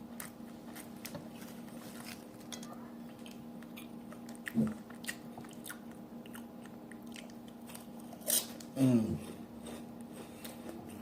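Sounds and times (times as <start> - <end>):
close-miked chewing: 0.0 - 11.0
steady low hum: 0.0 - 11.0.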